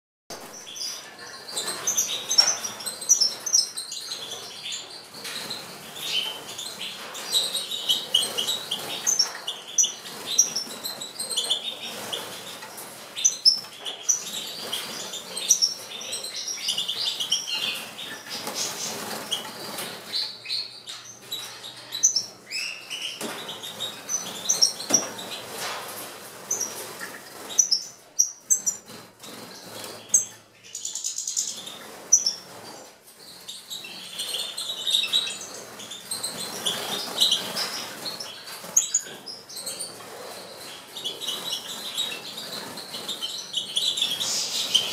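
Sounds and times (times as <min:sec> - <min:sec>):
finches twittering and chirping: 0:00.3 - 0:44.9.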